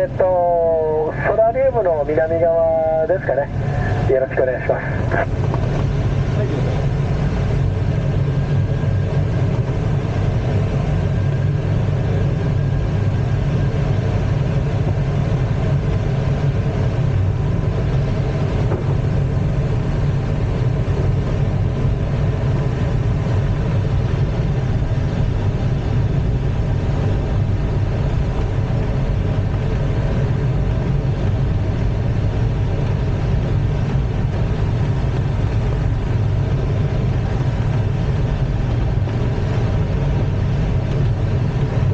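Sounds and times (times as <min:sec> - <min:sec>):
airflow rushing in glider cockpit: 0:00.0 - 0:41.9.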